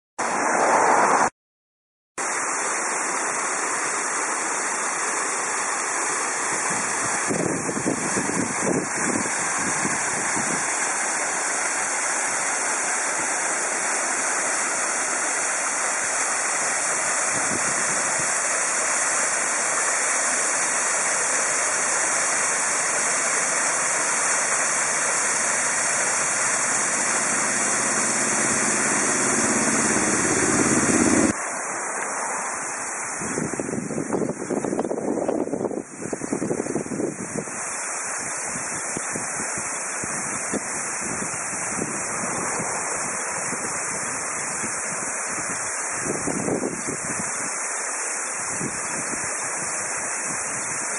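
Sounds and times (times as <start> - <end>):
waterfall rushing: 2.2 - 50.9.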